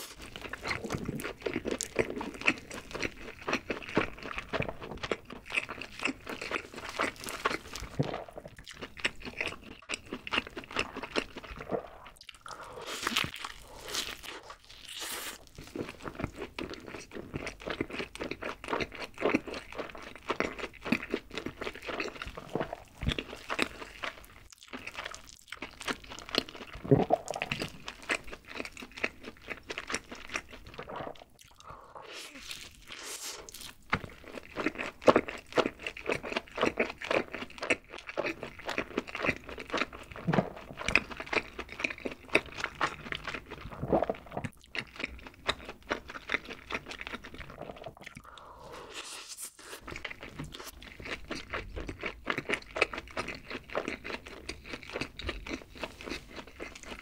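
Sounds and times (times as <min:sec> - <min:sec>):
wet mouth sounds: 0:00.0 - 0:17.2, 0:21.7 - 0:57.0
chewing crunchy fried chicken: 0:00.0 - 0:57.0.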